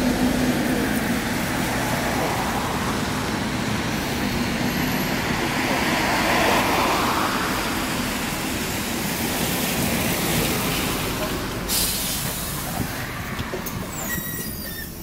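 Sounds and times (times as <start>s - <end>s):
bus diesel engine: 0.0s - 15.0s
road traffic noise: 0.0s - 15.0s.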